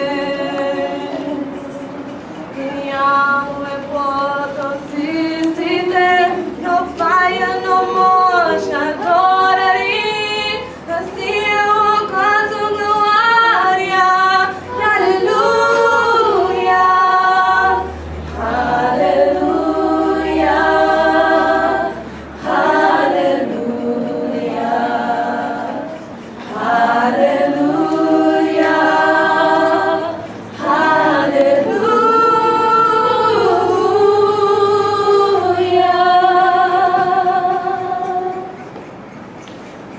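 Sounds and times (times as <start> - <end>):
women singing a cappella: 0.0 - 39.0.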